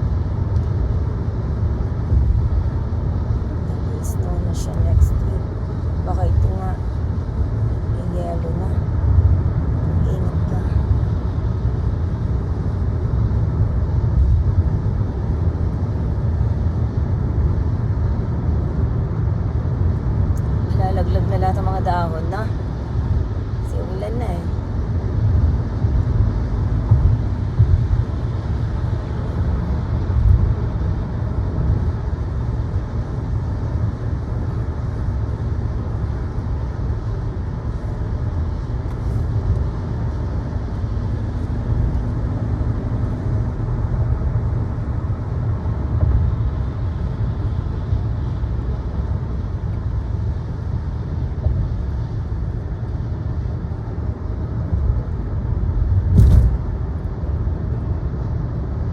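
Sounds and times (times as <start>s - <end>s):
car driving rumble: 0.0s - 58.9s.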